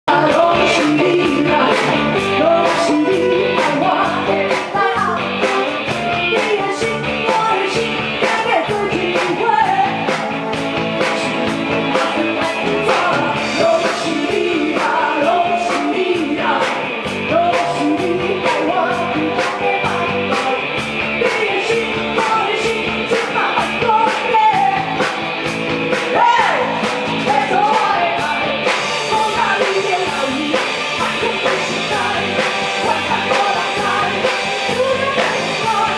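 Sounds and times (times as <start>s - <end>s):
rock song with singer: 0.0s - 35.9s
steady drum beat: 0.1s - 35.9s.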